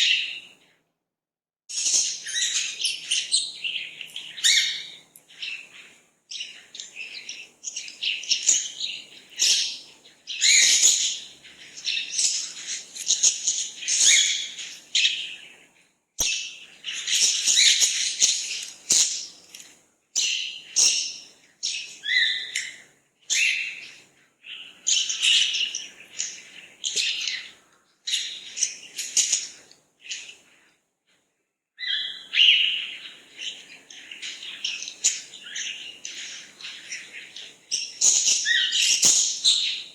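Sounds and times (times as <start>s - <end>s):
birds chirping and singing: 0.0s - 0.6s, 1.7s - 30.6s, 31.8s - 39.9s.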